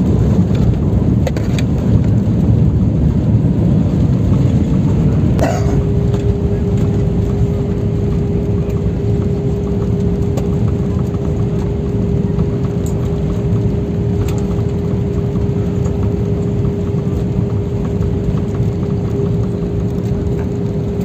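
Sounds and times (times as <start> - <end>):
jet engine and airflow rumble: 0.0 - 21.0.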